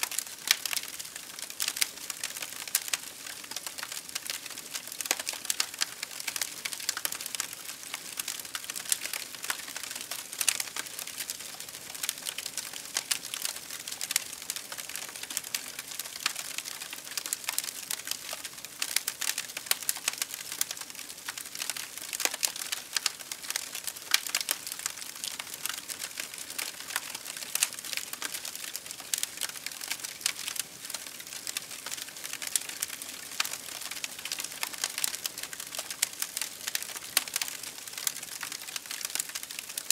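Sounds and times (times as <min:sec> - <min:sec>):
campfire crackling and popping: 0:00.0 - 0:39.9
soft hiss of burning: 0:00.0 - 0:39.9.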